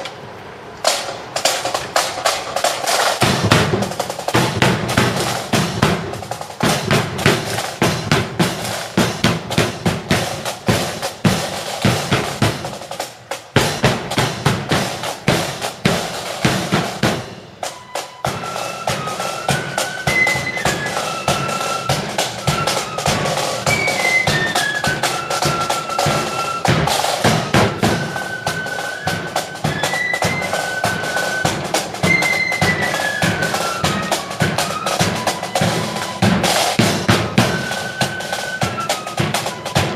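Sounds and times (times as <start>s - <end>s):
snare and bass drums marching: 0.0s - 39.9s
flutes playing high tune: 2.9s - 39.9s.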